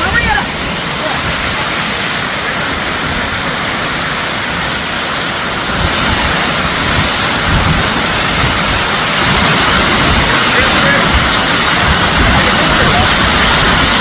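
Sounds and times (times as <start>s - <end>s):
low wind gusts: 0.0s - 14.0s
waterfall crashing: 0.0s - 14.0s.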